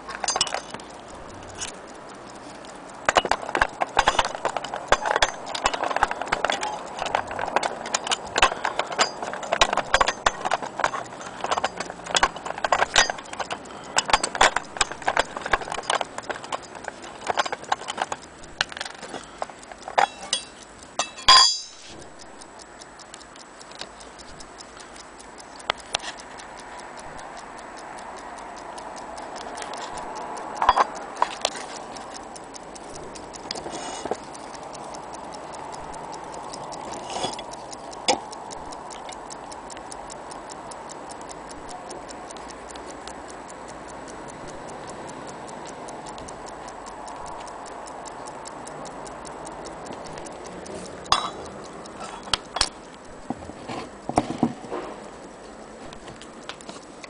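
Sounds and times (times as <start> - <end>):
clock escapement ticking: 0.0 - 57.0.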